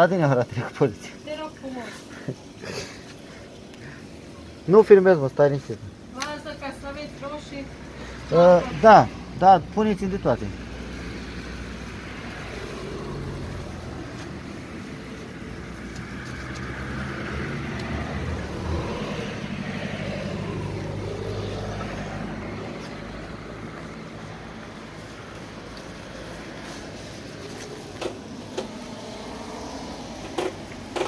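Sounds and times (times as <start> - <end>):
vehicle engine running: 5.8 - 31.0.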